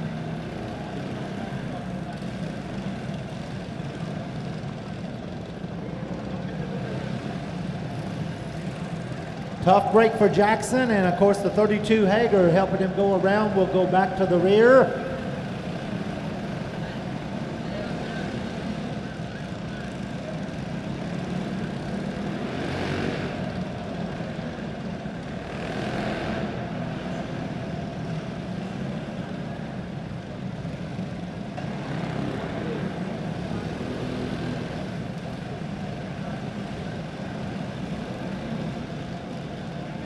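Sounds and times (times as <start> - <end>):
kart engines droning: 0.0 - 40.0.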